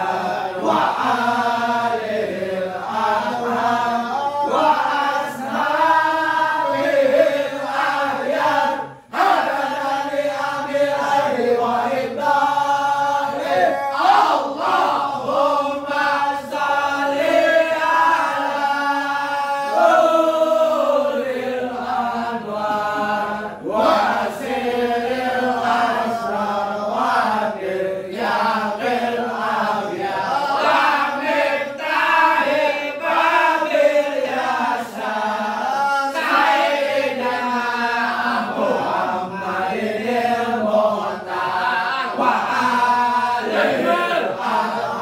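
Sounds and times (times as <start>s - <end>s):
group chanting in unison: 0.0s - 45.0s.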